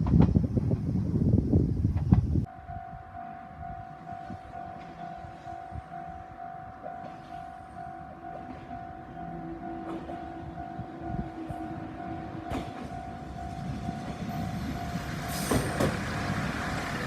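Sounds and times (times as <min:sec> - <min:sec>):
level crossing warning bell: 0:02.5 - 0:17.0.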